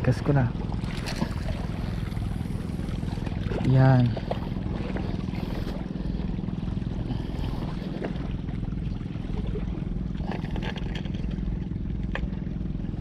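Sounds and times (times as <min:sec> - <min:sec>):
low hum: 0:00.0 - 0:13.0
wind: 0:00.0 - 0:13.0.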